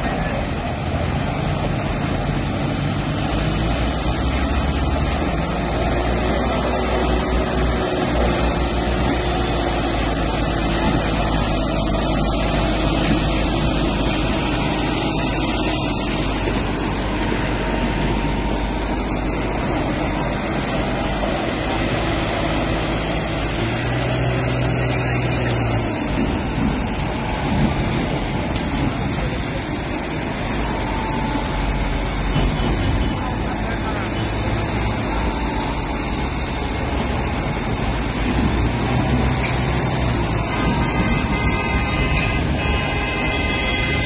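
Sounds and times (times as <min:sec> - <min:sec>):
deeper engine tone: 0:00.0 - 0:44.0
tractor diesel engine under load: 0:00.0 - 0:44.0.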